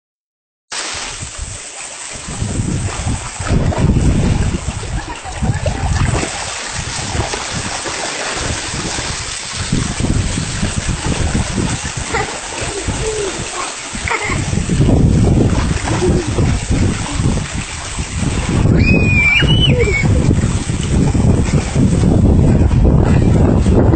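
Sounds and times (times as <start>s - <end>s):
wind buffeting microphone: 1.2s - 23.9s
fish thrashing and splashing: 2.2s - 22.2s.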